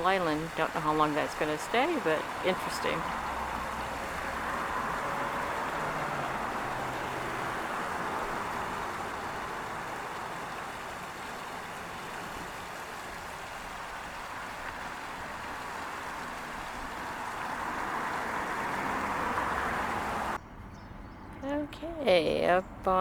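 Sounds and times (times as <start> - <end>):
waterfall pouring into pond: 0.0 - 20.4.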